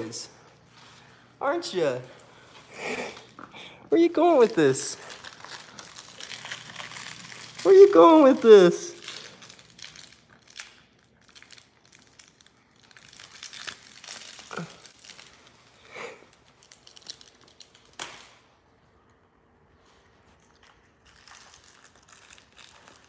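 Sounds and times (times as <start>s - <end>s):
plush toy crinkling and rustling: 3.2s - 23.0s.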